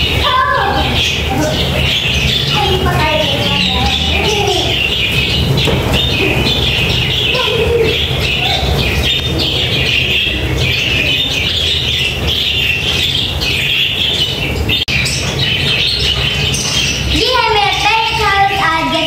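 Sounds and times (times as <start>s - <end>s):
budgerigars chattering and squawking: 0.0s - 19.0s.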